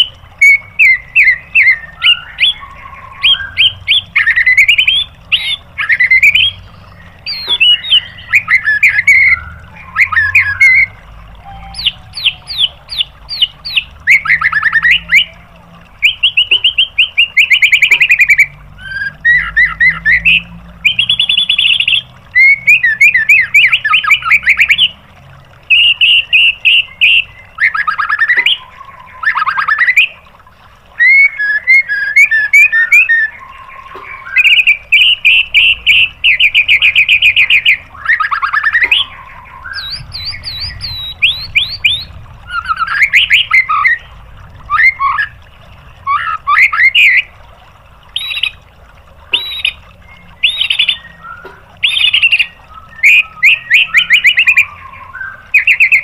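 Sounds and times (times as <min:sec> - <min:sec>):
songbird singing trills and whistles: 0:00.0 - 0:25.0, 0:25.6 - 0:30.3, 0:30.9 - 0:47.3, 0:48.1 - 0:48.6, 0:49.3 - 0:56.0.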